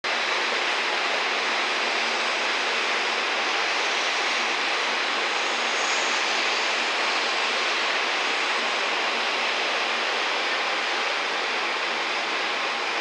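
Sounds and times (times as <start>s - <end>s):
outdoor background roar: 0.1s - 13.0s.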